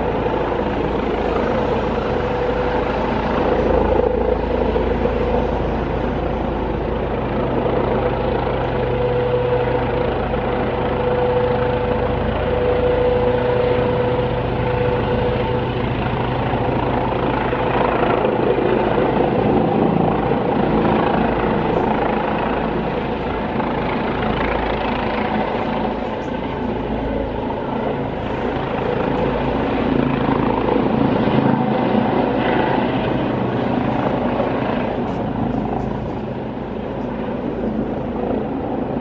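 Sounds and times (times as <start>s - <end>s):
helicopter rotor and turbine: 0.0s - 39.0s.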